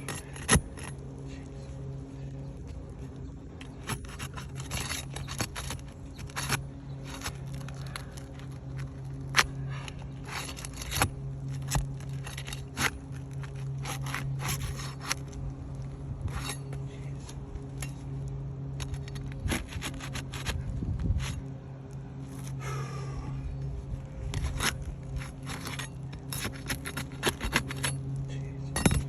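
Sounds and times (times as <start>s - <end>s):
shingles scraping and cracking: 0.0s - 21.5s, 24.2s - 29.0s
low hum: 0.0s - 29.0s.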